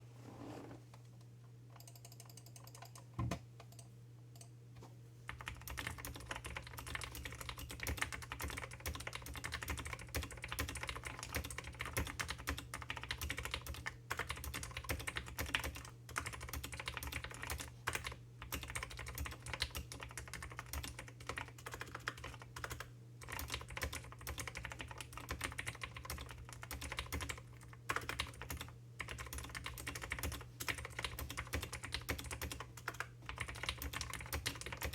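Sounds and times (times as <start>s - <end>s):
mechanical keyboard typing clicks: 1.8s - 4.5s, 5.3s - 34.9s.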